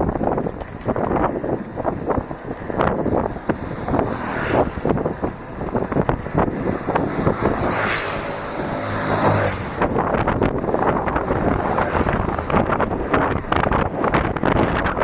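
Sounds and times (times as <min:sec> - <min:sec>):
bicycle rattling over dirt trail: 0:00.0 - 0:15.0
wind on microphone: 0:00.0 - 0:15.0.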